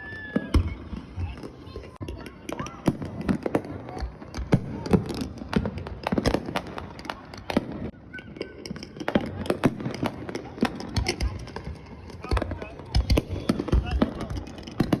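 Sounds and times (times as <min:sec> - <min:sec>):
fireworks bangs and crackles: 0:00.0 - 0:15.0
people's voices: 0:00.0 - 0:15.0.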